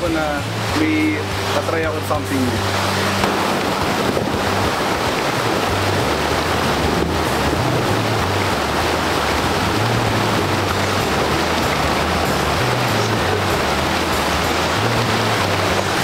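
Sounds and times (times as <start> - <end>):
water splashing around wheels: 0.0 - 16.0.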